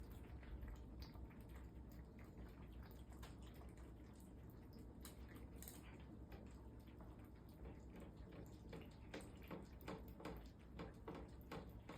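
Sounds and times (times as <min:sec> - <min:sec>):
cats chewing and crunching: 0:00.0 - 0:11.9
low steady hum: 0:00.0 - 0:11.9.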